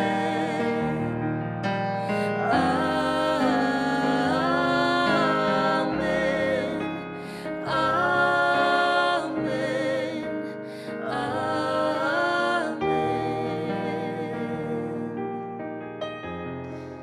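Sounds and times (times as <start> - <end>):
person singing with vibrato: 0.0 - 15.5.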